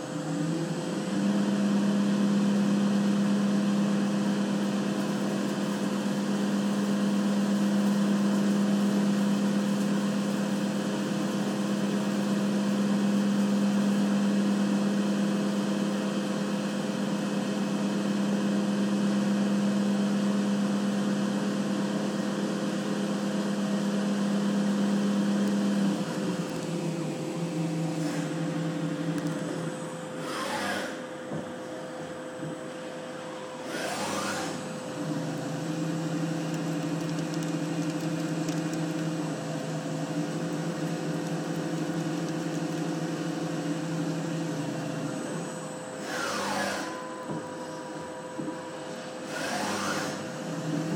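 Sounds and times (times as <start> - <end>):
machine tool humming and whining: 0.0 - 50.9.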